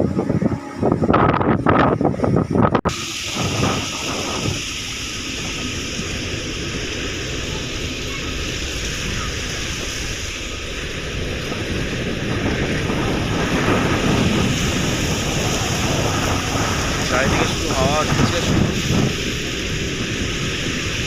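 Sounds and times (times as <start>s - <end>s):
storm wind buffeting microphone: 0.0s - 21.0s.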